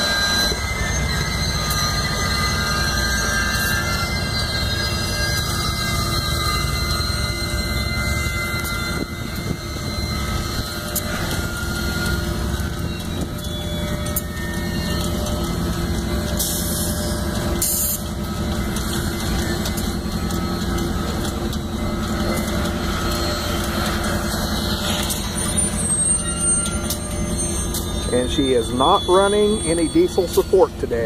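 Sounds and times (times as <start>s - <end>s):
faint wheel squealing: 0.0s - 31.0s
train wheels rumbling on rails: 0.0s - 31.0s.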